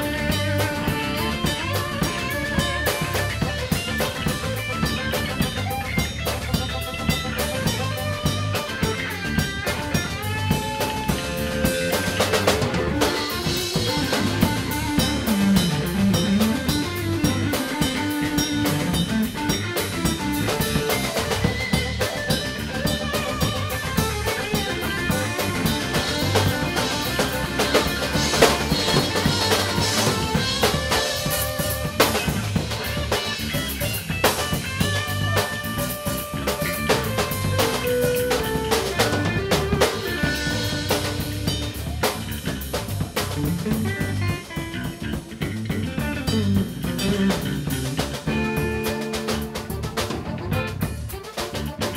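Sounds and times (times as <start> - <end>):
saxophone: 0.0 - 42.3, 43.2 - 51.9
drum kit beat: 0.0 - 51.9
electric bass: 0.0 - 51.9
electric guitar: 0.0 - 51.9.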